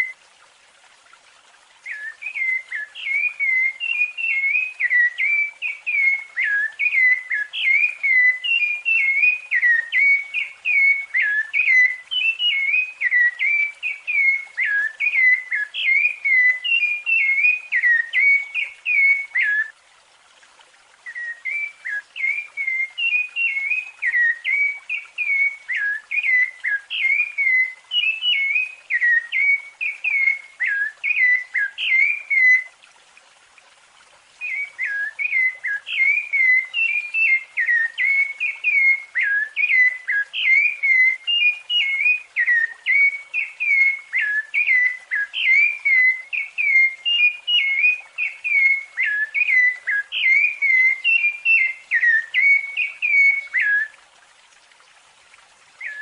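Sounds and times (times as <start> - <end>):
thrush singing whistled notes: 0.0 - 0.2, 1.8 - 19.8, 21.0 - 32.8, 34.4 - 54.0, 55.7 - 56.0.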